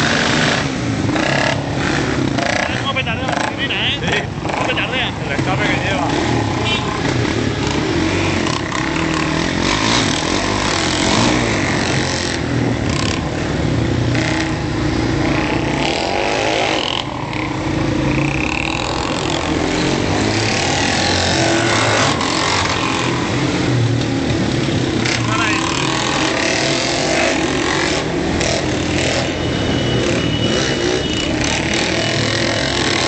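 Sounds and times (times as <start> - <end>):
motorcycle engines running: 0.0 - 33.0.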